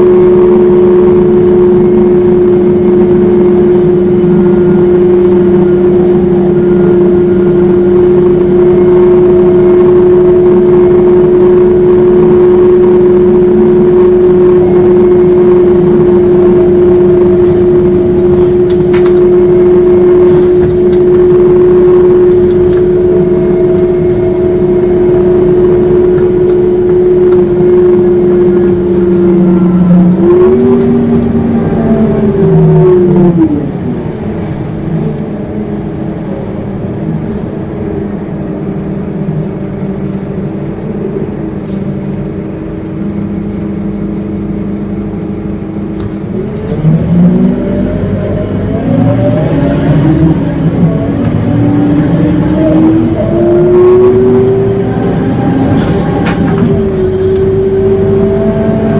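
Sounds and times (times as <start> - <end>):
bus drivetrain whining: 0.0 - 58.9.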